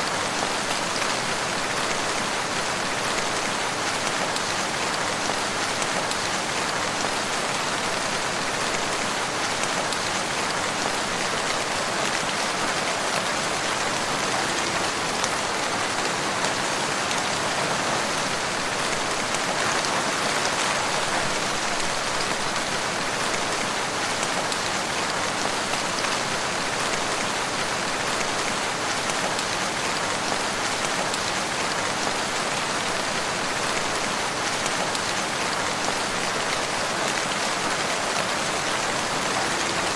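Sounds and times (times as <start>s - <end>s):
steady rain hiss: 0.1s - 39.9s.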